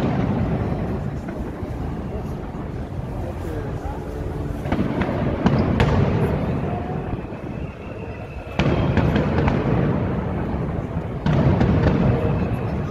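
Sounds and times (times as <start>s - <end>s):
fireworks bangs and crackling: 0.0s - 12.9s.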